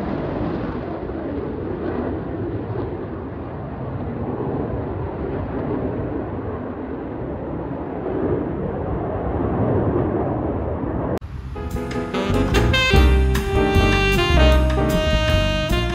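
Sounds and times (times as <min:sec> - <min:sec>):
distant jet rumble: 0:00.0 - 0:15.9.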